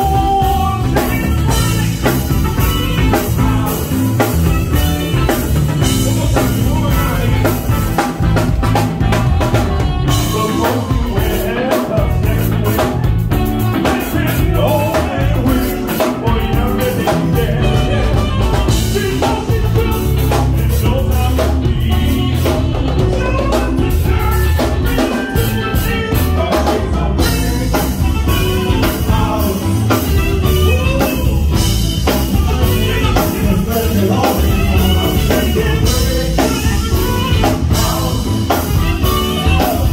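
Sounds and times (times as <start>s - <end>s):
bass guitar: 0.0s - 39.9s
drum kit beat: 0.0s - 39.9s
electric guitars: 0.0s - 39.9s
person singing: 0.0s - 39.9s.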